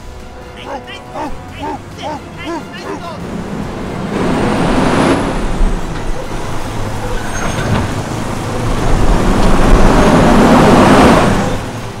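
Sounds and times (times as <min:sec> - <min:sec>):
noisy wash: 0:00.0 - 0:12.0.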